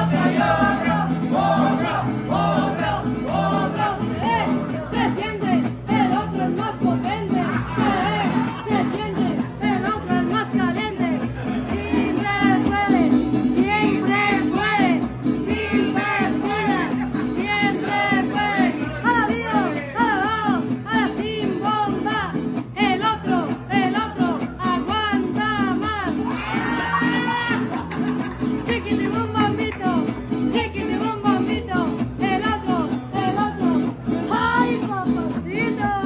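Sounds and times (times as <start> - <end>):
strummed guitar: 0.0 - 36.0.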